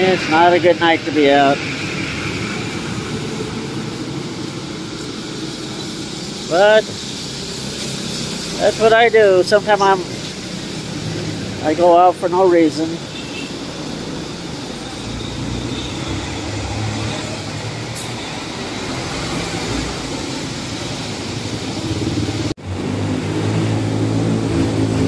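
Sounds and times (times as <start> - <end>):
vehicles passing: 0.0 - 25.0
wet road hiss: 0.0 - 25.0.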